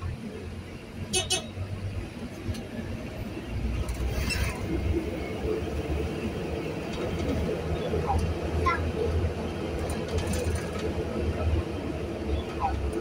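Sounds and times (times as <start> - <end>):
vehicle driving on wet road: 0.0 - 13.0.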